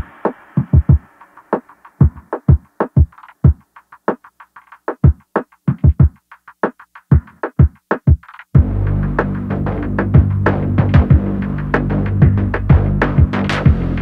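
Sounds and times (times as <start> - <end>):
drum machine kick thumps: 0.0 - 14.0
electronic music: 0.0 - 14.0.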